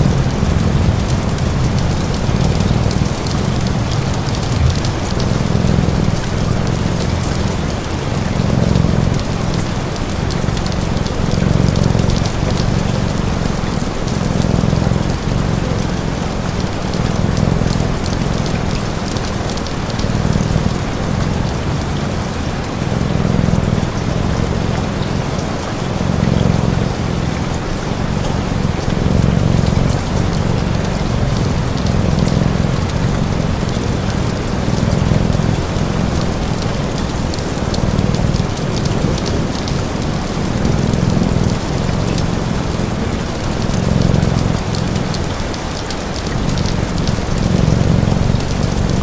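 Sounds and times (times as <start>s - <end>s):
cat purring: 0.0s - 49.0s
steady rain falling: 0.0s - 49.0s.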